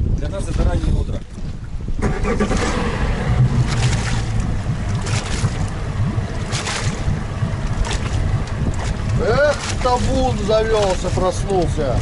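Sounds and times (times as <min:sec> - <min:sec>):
outboard motor running: 0:00.0 - 0:12.0
water rushing past hull: 0:00.0 - 0:12.0
wind gusting on microphone: 0:00.0 - 0:12.0.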